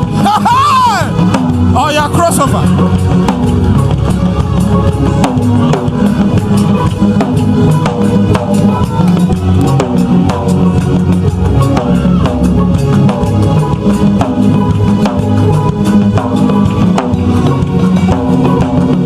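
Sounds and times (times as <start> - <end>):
drum kit beat: 0.0 - 19.0
heavy bass line: 0.0 - 19.0.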